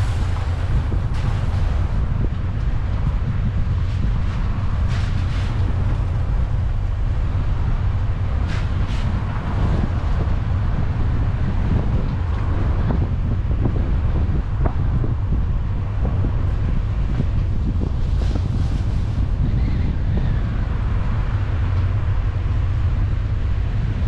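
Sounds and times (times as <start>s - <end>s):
road and tyre noise: 0.0s - 24.0s
wind buffeting microphone: 0.0s - 24.0s.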